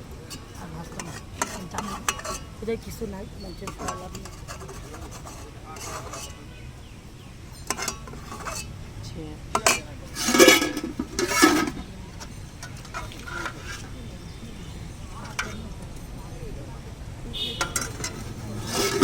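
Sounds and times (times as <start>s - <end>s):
dishes and utensils clattering: 0.0s - 6.6s, 7.5s - 8.8s, 9.5s - 16.1s, 17.4s - 19.0s.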